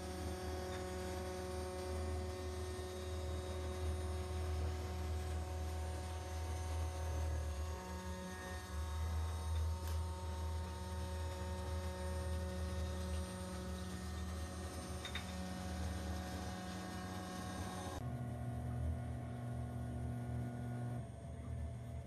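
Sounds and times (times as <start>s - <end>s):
cnc router spindle humming: 0.0s - 22.0s.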